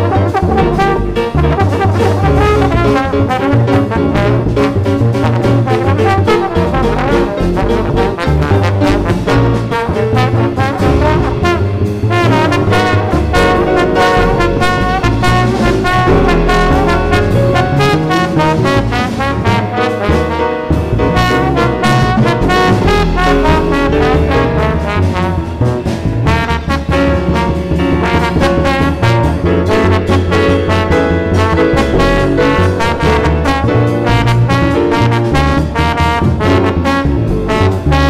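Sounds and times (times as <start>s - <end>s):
double bass: 0.0s - 38.0s
drum kit: 0.0s - 38.0s
grand piano: 0.0s - 38.0s
trombone: 0.0s - 38.0s.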